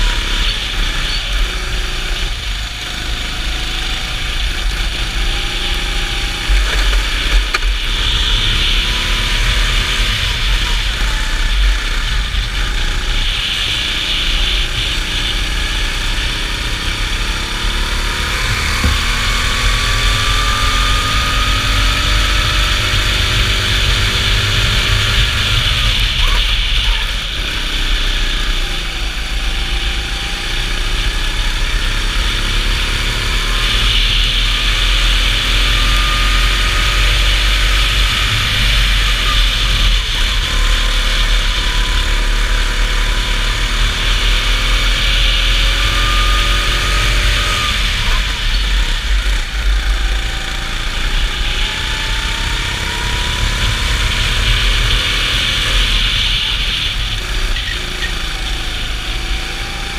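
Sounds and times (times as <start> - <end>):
go-kart engine accelerating: 0.0 - 59.9.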